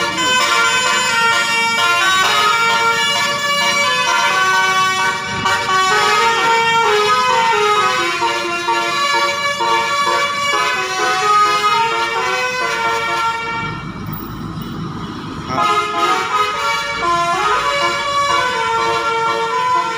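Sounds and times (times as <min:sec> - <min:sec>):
bus musical horns: 0:00.0 - 0:14.1, 0:15.0 - 0:19.9
engine rumble: 0:00.0 - 0:19.9.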